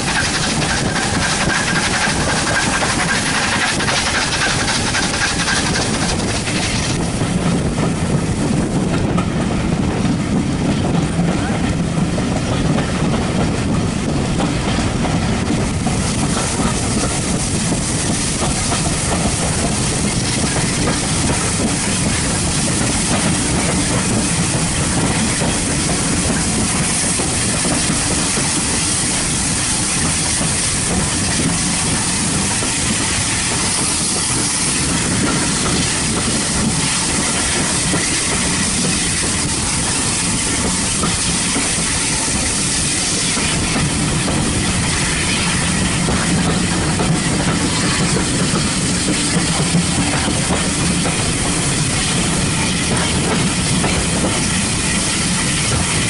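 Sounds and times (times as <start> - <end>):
steam hissing: 0.0 - 8.8, 15.4 - 56.0
steam train rumble: 0.0 - 56.0.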